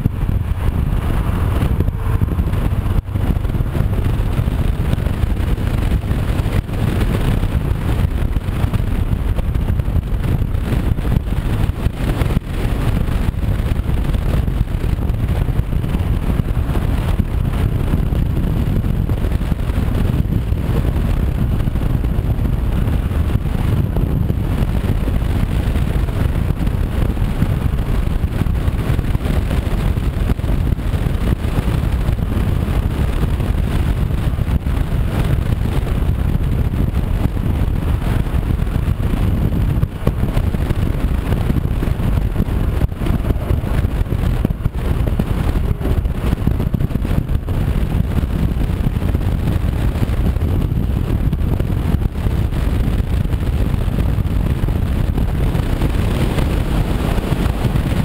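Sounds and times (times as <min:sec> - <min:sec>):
motorcycle engine: 0:00.0 - 0:58.0
road noise: 0:00.0 - 0:58.0
wind buffeting microphone: 0:00.0 - 0:58.0.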